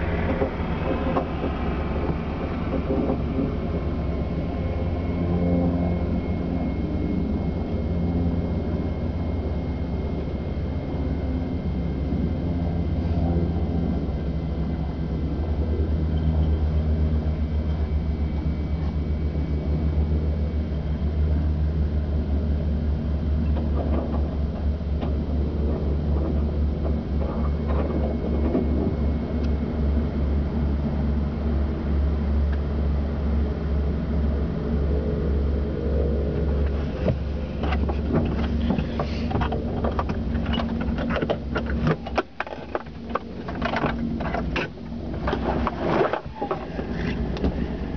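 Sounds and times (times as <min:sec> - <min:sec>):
aircraft engines droning in cabin: 0:00.0 - 0:47.9.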